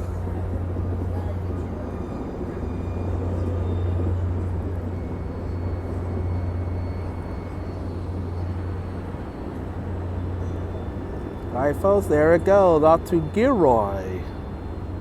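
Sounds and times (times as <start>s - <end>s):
diesel locomotive engine drone: 0.0s - 15.0s
train rumbling: 0.0s - 15.0s.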